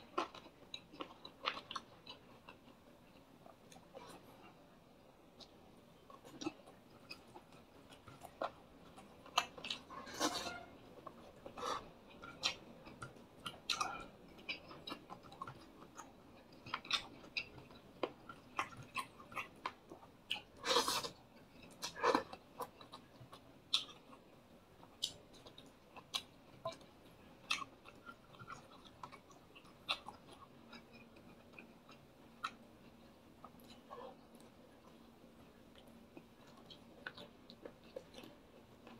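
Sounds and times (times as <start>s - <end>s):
faint steady hum: 0.0s - 38.9s
man chewing with wet smacks: 0.0s - 38.9s.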